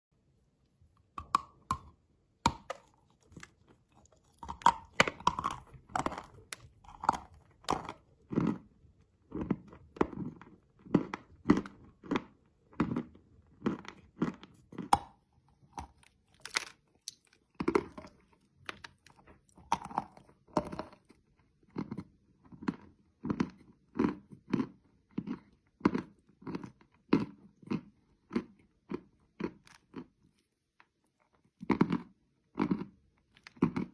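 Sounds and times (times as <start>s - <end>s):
crunchy chewing of hard candy: 1.0s - 33.9s.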